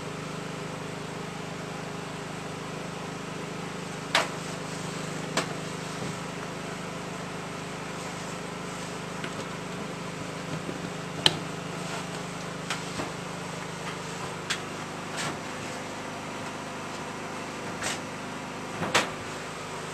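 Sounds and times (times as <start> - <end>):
steady mechanical hum: 0.0 - 19.9.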